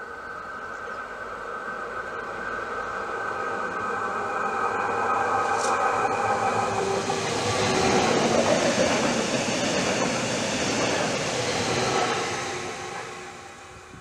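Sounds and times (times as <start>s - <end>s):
train passing close by: 0.0s - 14.0s.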